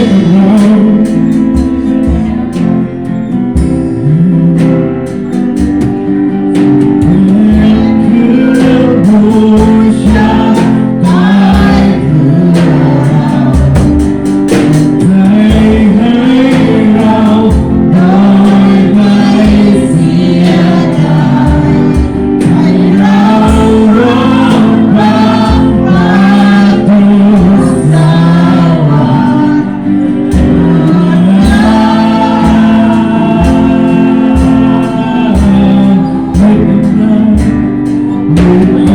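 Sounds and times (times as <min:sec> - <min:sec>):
amplified band accompaniment: 0:00.0 - 0:38.9
group of voices singing: 0:00.0 - 0:38.9.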